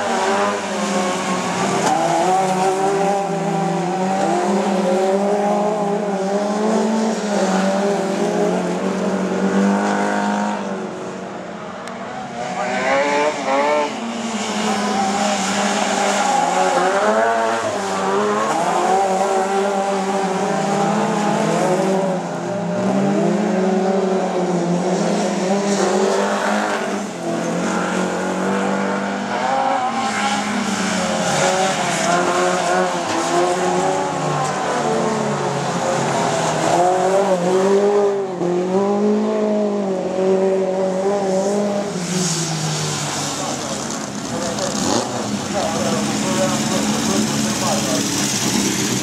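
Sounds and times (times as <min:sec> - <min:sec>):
race car engines revving: 0:00.0 - 0:49.0.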